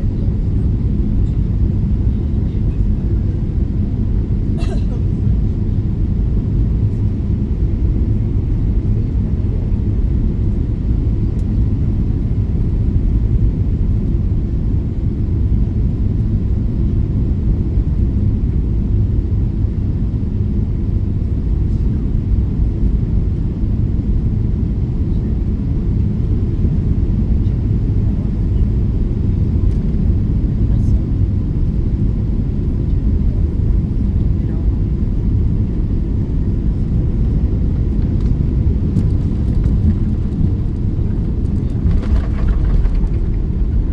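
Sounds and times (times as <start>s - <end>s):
low rumble in aircraft cabin: 0.0s - 43.9s.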